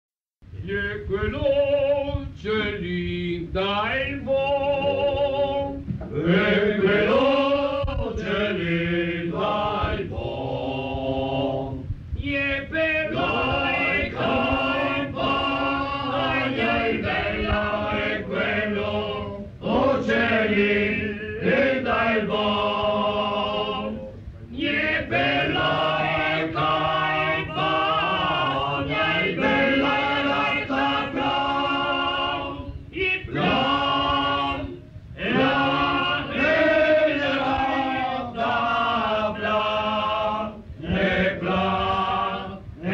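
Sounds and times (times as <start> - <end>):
group singing unaccompanied: 0.6 - 42.9.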